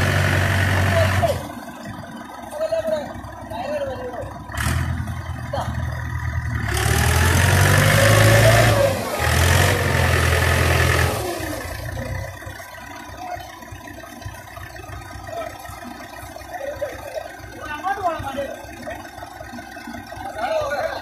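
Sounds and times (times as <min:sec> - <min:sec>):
tractor engine revving and idling: 0:00.0 - 0:21.0.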